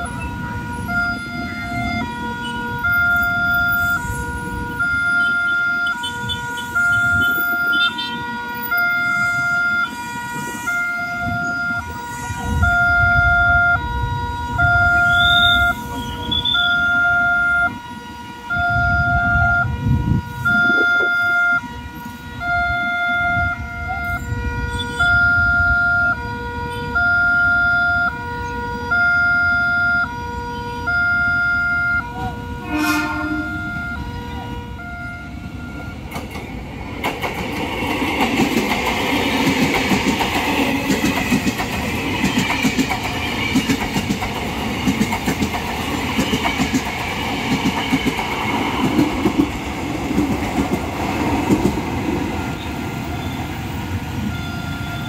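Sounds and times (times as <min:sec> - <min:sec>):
level crossing warning alarm: 0:00.0 - 0:55.0.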